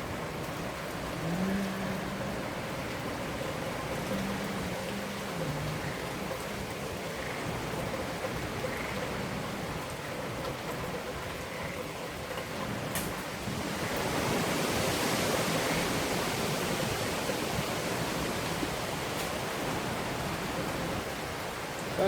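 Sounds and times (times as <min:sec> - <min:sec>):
heavy rain: 0:00.0 - 0:22.0
hurricane wind: 0:00.0 - 0:22.0.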